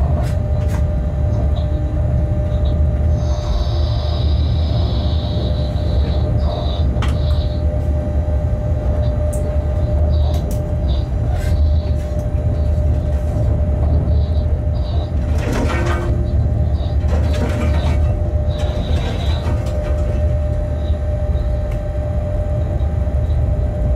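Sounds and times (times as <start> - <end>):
constant hum: 0.0 - 23.9
locomotive rumble in cab: 0.0 - 23.9.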